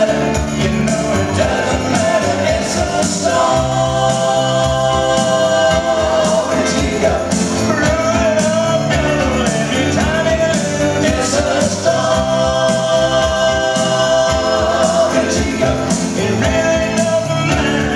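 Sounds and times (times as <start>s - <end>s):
bass guitar: 0.0s - 17.9s
keyboards: 0.0s - 17.9s
men singing: 0.0s - 17.9s.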